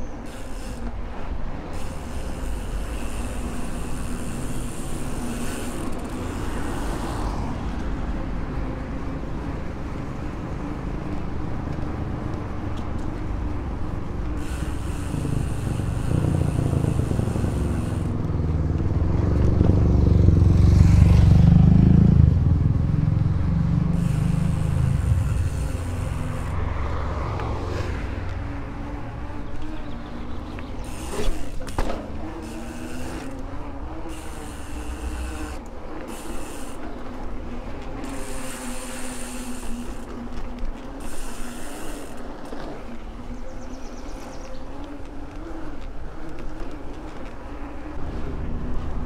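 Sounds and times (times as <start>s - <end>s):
bike tyre and wind rumble: 0.0s - 49.0s
traffic passing: 0.0s - 49.0s.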